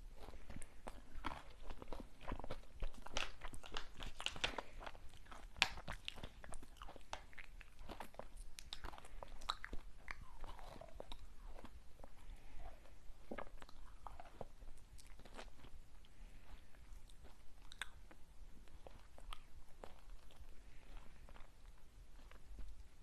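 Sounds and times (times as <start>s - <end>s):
soft chewing: 0.0s - 23.0s.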